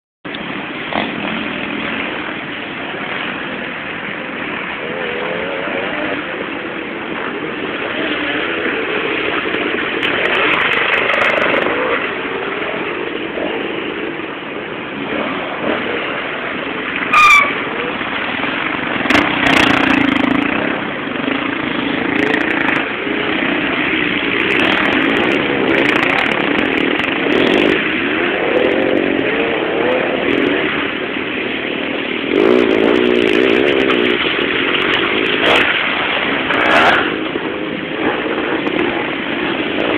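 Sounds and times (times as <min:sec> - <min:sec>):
dirt-bike engines revving: 0:00.4 - 0:39.9.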